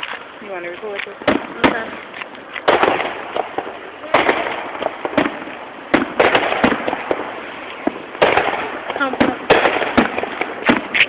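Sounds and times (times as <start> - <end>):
firework bangs with rumbling echo: 0.4 - 11.0.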